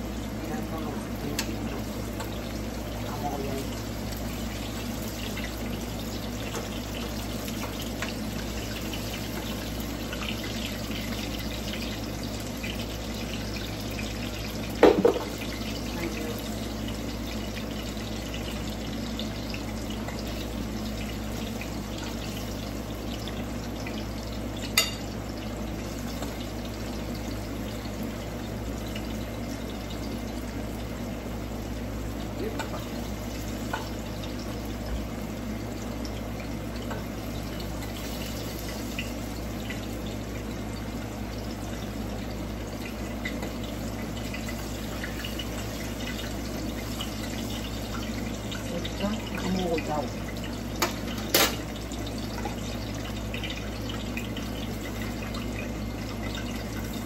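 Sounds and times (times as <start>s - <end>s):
plantain slices sizzling in oil: 0.0s - 57.0s.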